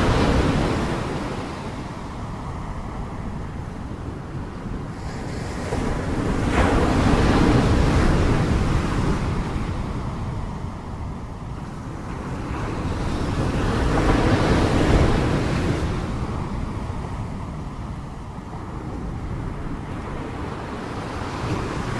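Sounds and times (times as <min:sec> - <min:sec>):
sea waves breaking: 0:00.0 - 0:21.9
wind buffeting microphone: 0:00.0 - 0:21.9.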